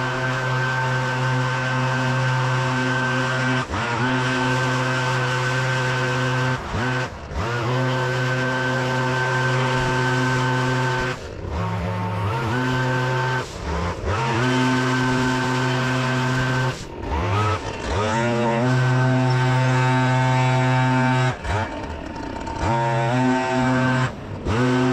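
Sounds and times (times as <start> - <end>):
leaf vacuum engine running: 0.0 - 24.9.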